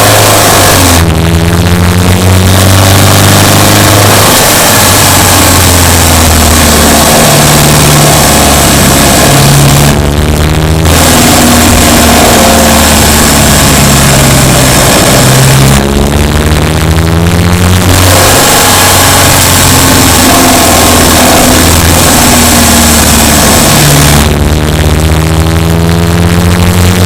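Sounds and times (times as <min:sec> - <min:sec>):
hissy road noise: 0:00.0 - 0:25.5
car engine running: 0:00.0 - 0:27.0.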